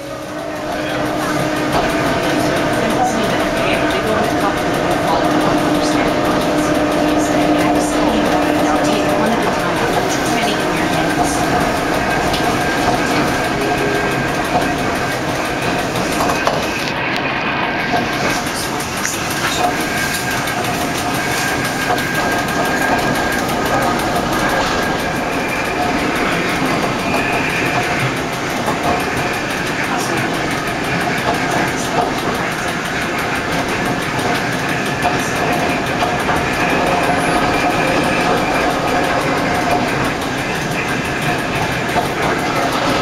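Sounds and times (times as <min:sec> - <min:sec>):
train wheels rumbling: 0:00.0 - 0:43.0.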